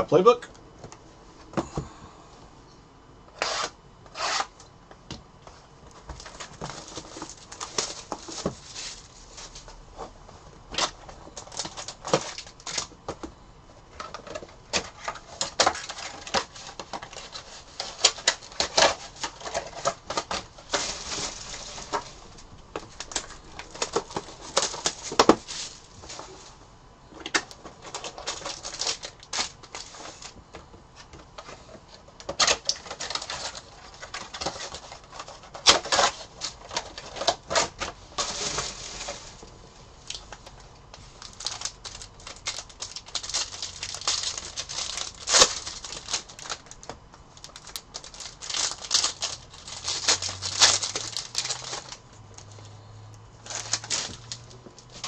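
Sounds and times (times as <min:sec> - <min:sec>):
foil packs crinkling: 0:05.9 - 0:26.6, 0:27.2 - 0:52.7, 0:53.4 - 0:55.0.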